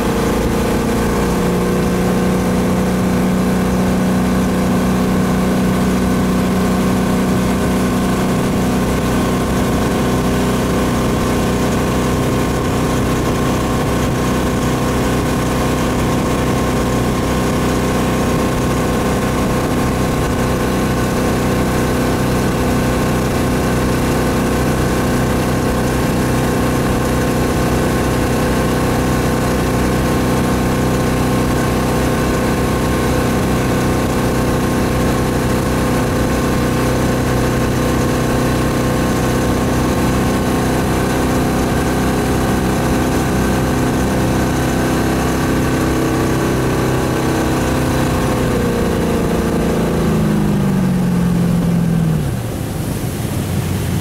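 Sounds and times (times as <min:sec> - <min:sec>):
boat engine running at high speed: 0:00.0 - 0:54.0
water rushing: 0:00.0 - 0:54.0.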